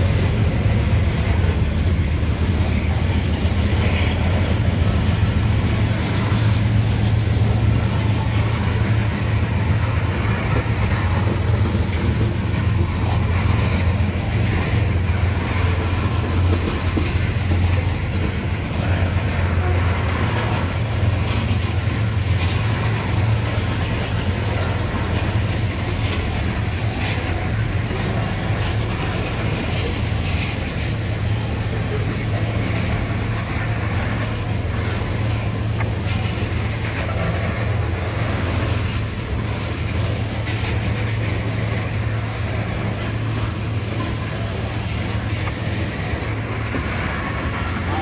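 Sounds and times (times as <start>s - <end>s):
rattling and clicking of cars: 0.0s - 48.0s
train wheels rumbling on rails: 0.0s - 48.0s.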